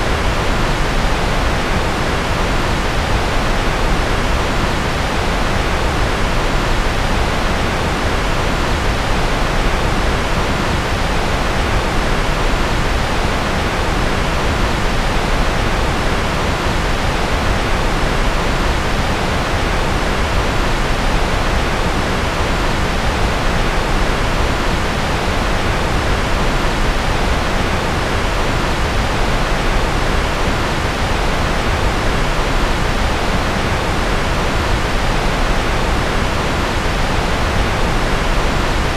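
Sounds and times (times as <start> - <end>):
steady generated noise hiss: 0.0 - 38.9.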